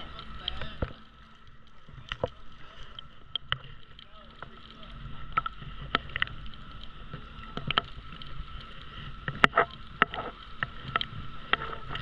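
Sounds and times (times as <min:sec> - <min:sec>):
small waves lapping: 0:00.0 - 0:12.0
water slapping camera: 0:00.0 - 0:12.0.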